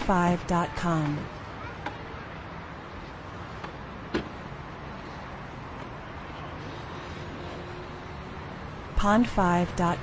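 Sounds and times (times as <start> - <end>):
traffic: 0.0 - 10.0.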